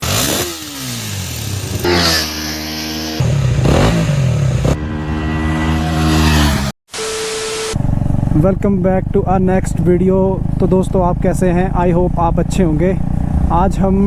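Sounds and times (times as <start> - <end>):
motorcycle engine revving: 0.0 - 6.8, 7.7 - 14.0.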